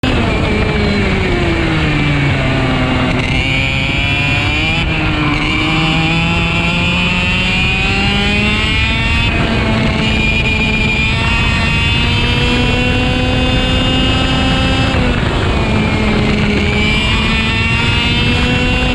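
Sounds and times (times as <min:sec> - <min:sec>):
kart engine revving: 0:00.0 - 0:18.9
wind and road noise: 0:00.0 - 0:18.9.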